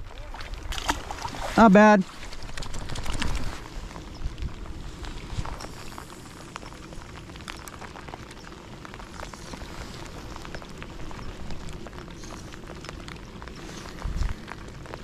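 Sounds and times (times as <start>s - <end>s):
rain on water and kayak: 0.0s - 15.0s.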